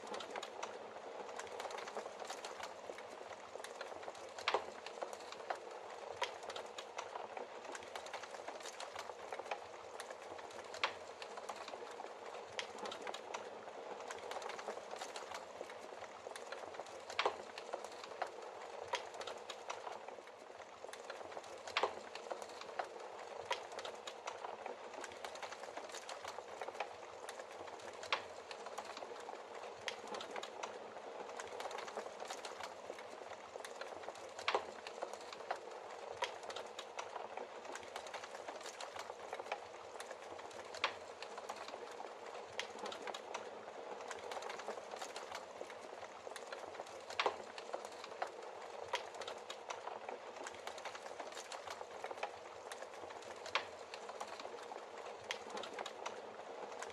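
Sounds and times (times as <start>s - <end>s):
fire popping: 0.0s - 56.9s
wood fire hissing and crackling: 0.0s - 56.9s.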